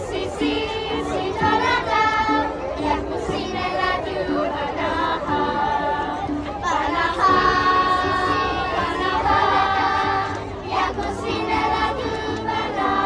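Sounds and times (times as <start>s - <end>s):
children singing together: 0.0s - 13.0s.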